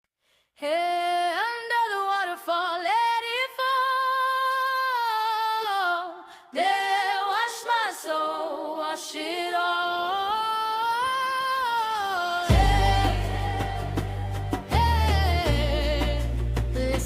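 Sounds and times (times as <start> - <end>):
woman singing wordless melody: 0.6 - 17.0.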